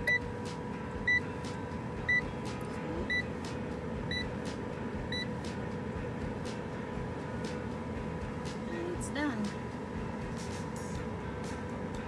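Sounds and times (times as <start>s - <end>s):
air fryer beeping: 0.0s - 12.0s
steady hum: 0.0s - 12.0s.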